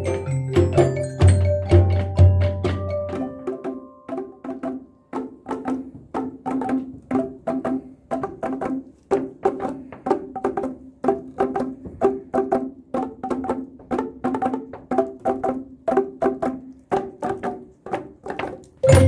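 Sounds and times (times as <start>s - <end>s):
tubes struck on stage floor: 0.0s - 19.0s.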